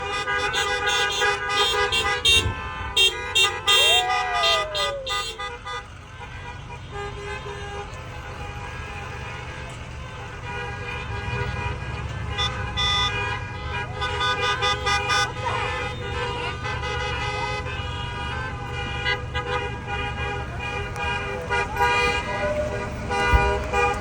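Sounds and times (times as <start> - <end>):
bus musical horn blasts: 0.0 - 24.0
engine rumble: 0.0 - 24.0
traffic: 0.0 - 24.0.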